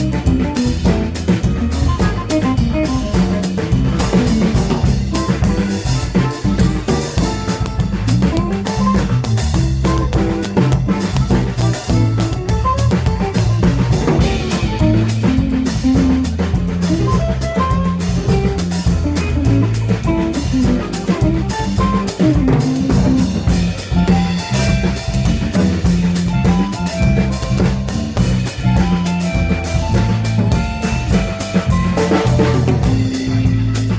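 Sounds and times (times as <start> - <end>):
drum kit playing: 0.0 - 33.9
electric bass: 0.0 - 33.9
electric guitar: 0.0 - 33.9.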